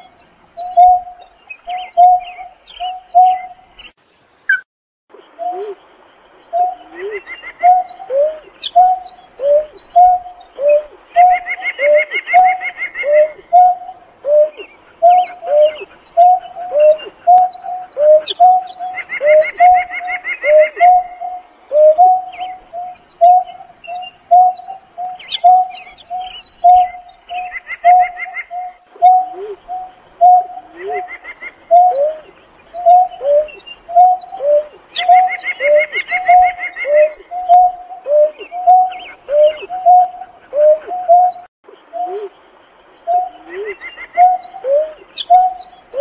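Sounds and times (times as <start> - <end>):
bird low hooting notes: 5.3 - 46.0.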